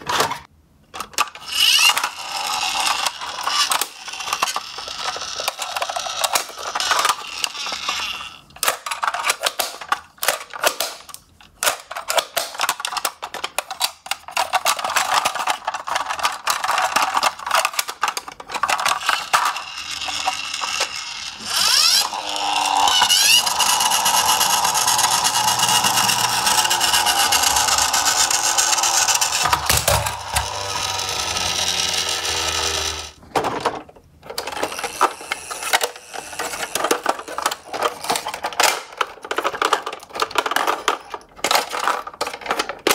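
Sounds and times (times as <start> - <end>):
plastic toy trucks clattering: 0.0 - 42.9.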